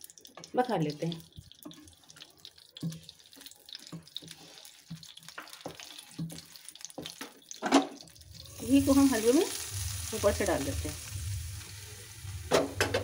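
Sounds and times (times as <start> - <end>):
ghee crackling and popping in a pan: 0.0 - 13.0.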